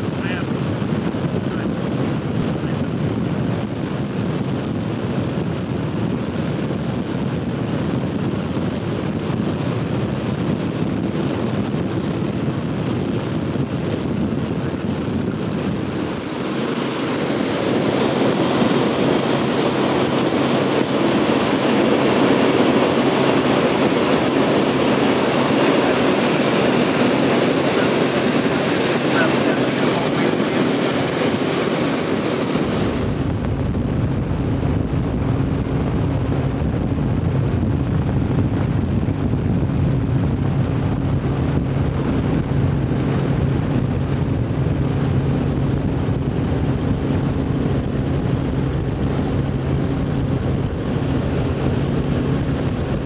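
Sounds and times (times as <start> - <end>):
aircraft engine drone: 0.0 - 53.0
wind rushing past: 0.0 - 53.0.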